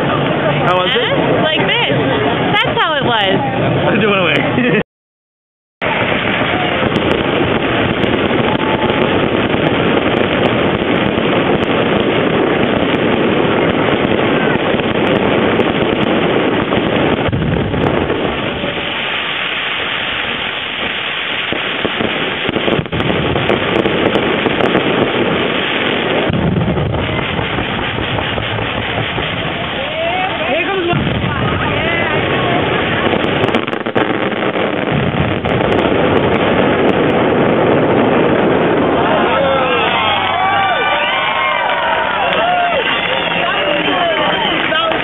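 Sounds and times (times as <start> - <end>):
fireworks crackling: 0.0 - 4.8, 5.8 - 45.0.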